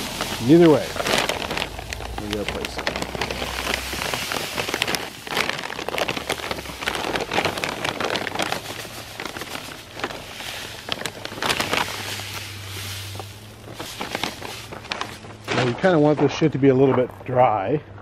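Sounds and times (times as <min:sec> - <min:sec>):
sand pouring: 0:00.0 - 0:15.8
plastic bag crinkling: 0:00.0 - 0:16.0.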